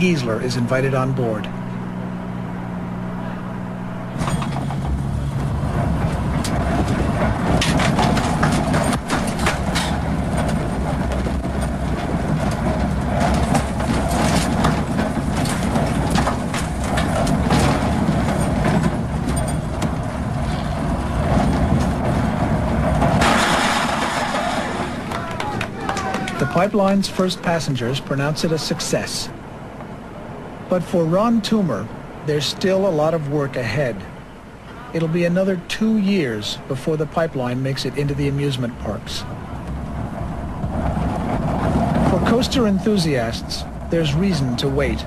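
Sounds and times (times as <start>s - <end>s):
roller coaster wheels rumbling: 0.0s - 45.0s.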